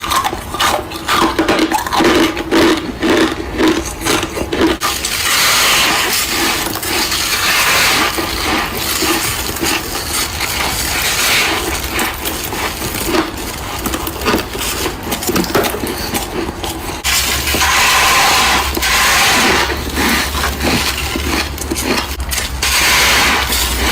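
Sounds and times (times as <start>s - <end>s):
chewing crunchy frost: 0.0s - 23.9s.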